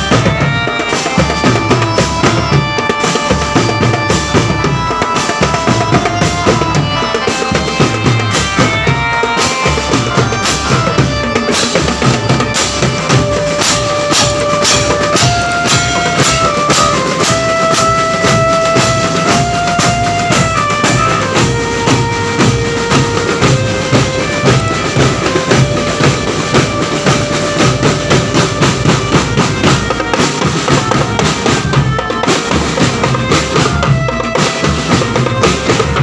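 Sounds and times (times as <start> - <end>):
fast drum beat: 0.0 - 36.0
melody of held notes: 0.0 - 36.0.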